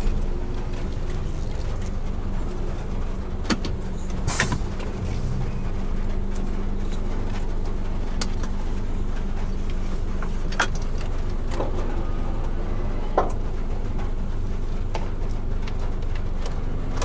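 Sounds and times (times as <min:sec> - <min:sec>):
constant hum: 0:00.0 - 0:17.0
truck engine drone: 0:00.0 - 0:17.0.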